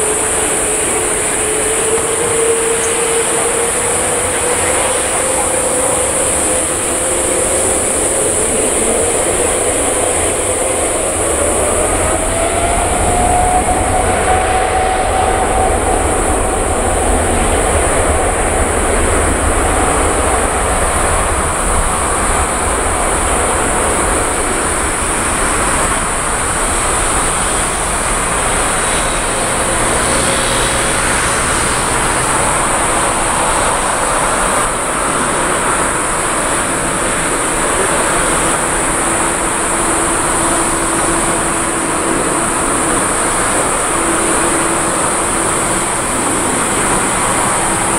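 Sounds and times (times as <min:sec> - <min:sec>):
high hiss: 0:00.0 - 0:47.9
jet engines whining: 0:00.0 - 0:47.9.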